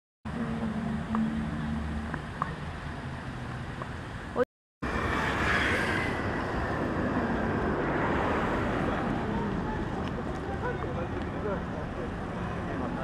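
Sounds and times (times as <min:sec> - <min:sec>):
passing cars: 0:00.3 - 0:13.0.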